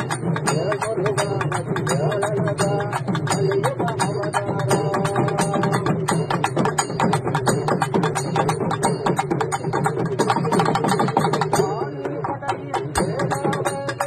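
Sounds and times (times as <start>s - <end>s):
fast drum ensemble: 0.0s - 14.0s
sliding drum tones: 0.0s - 14.0s.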